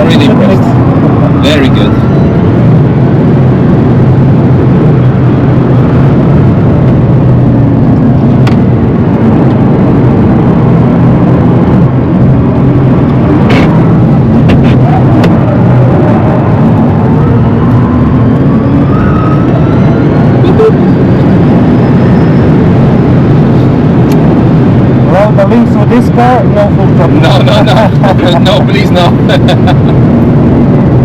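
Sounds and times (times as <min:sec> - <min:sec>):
road and tyre noise: 0:00.0 - 0:31.0.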